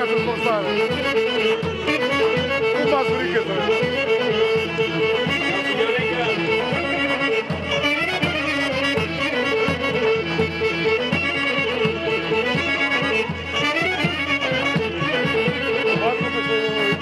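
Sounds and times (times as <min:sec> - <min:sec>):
bowed lyra melody: 0:00.0 - 0:17.0
steady drum beat: 0:00.0 - 0:17.0.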